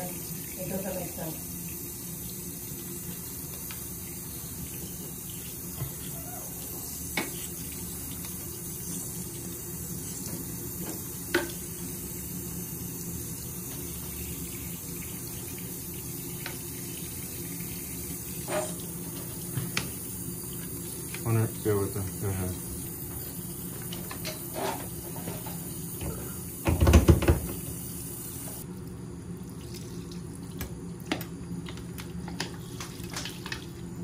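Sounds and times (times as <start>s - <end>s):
sink faucet running: 0.0s - 28.6s.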